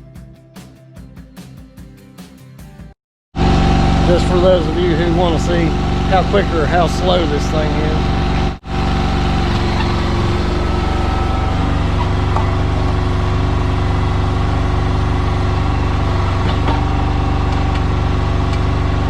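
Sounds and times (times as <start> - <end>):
excavator diesel engine running: 3.4 - 19.0.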